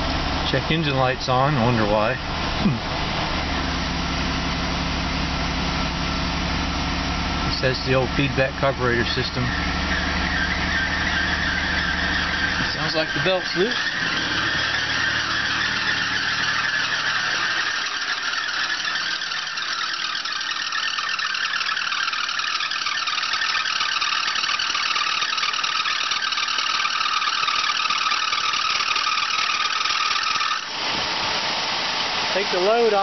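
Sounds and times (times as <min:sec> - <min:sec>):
alternator belt squealing: 0:00.0 - 0:33.0
car engine idling: 0:00.0 - 0:33.0.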